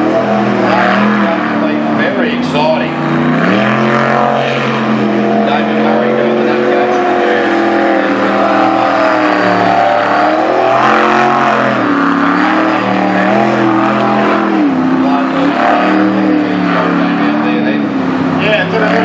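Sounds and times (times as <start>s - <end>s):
boat engine revving: 0.0s - 19.0s.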